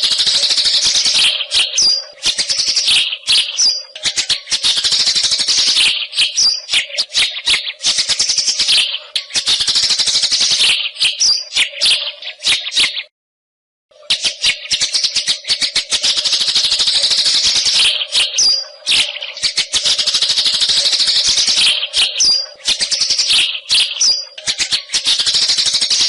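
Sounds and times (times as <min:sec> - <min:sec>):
bird chattering rattle: 0:00.0 - 0:13.1, 0:14.1 - 0:26.0.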